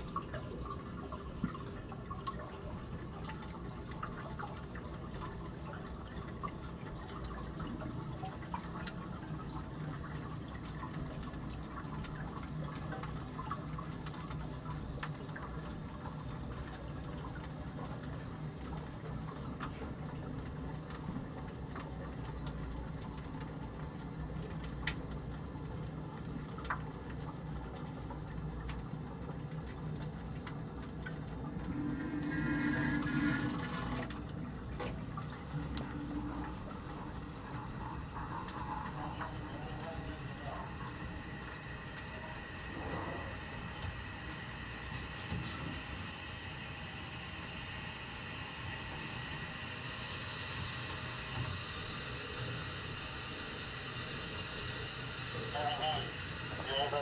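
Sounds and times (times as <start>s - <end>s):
water running: 0.0s - 57.0s.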